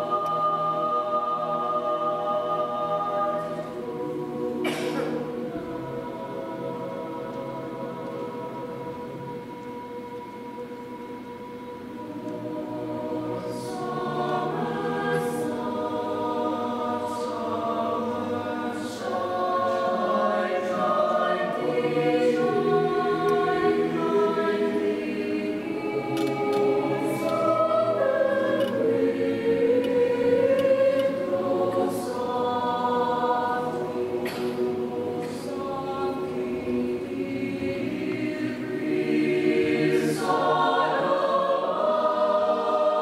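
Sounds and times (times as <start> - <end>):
mixed choir singing: 0.0 - 43.0.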